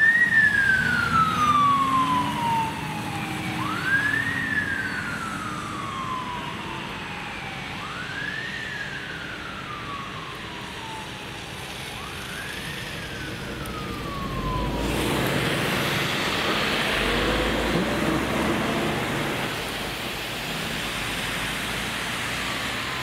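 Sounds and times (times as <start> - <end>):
fire engine siren: 0.0 - 23.0.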